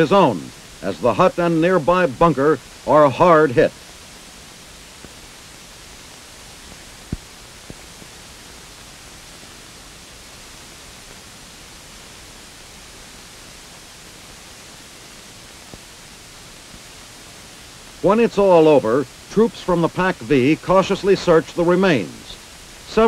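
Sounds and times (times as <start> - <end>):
soundtrack background hiss: 0.0 - 23.0.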